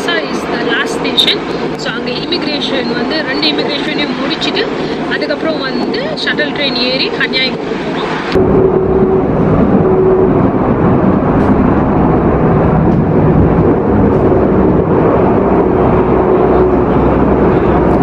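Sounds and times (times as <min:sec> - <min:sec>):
steady hum: 0:00.0 - 0:18.0
train rumble and rushing: 0:00.0 - 0:18.0.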